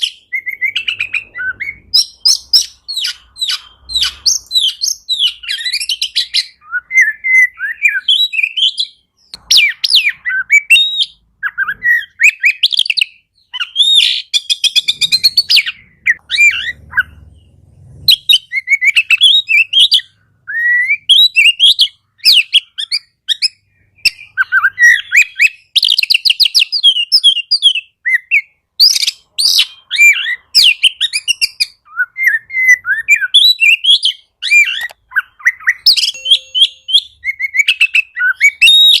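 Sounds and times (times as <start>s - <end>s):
songbird whistles trills and chatters: 0.0s - 39.0s.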